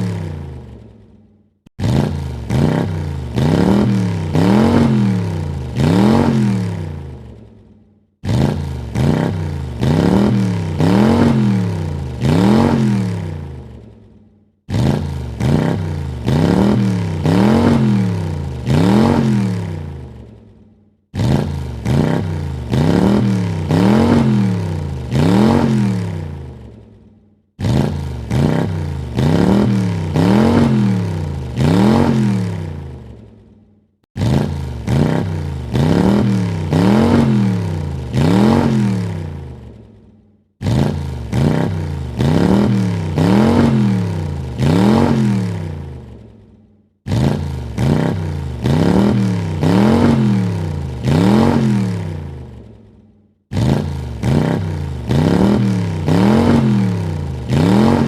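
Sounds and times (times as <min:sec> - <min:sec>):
car engine revving in blips: 0:00.0 - 0:00.8, 0:01.6 - 0:07.4, 0:08.2 - 0:13.8, 0:14.7 - 0:20.3, 0:21.1 - 0:26.8, 0:27.6 - 0:33.2, 0:34.1 - 0:39.8, 0:40.6 - 0:46.2, 0:47.0 - 0:52.7, 0:53.5 - 0:58.0.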